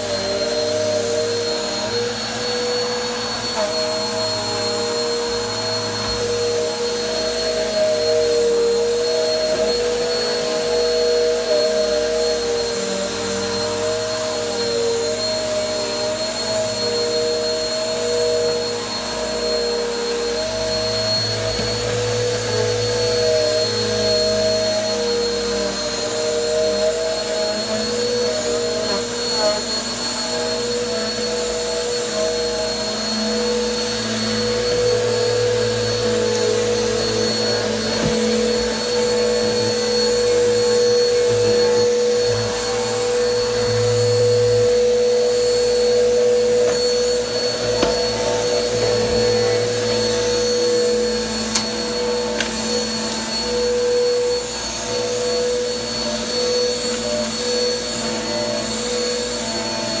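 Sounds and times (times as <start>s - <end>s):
upright vacuum cleaner running: 0.0s - 60.0s.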